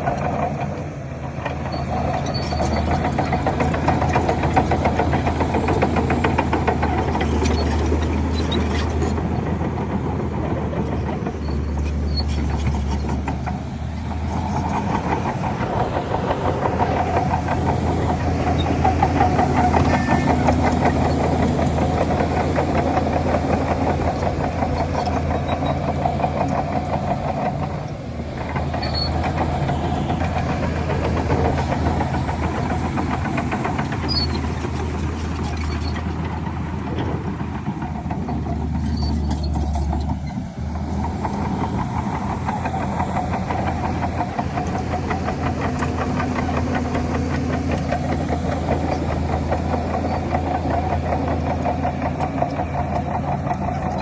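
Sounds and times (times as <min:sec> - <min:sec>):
bulldozer diesel engine rumbling: 0:00.0 - 0:54.0.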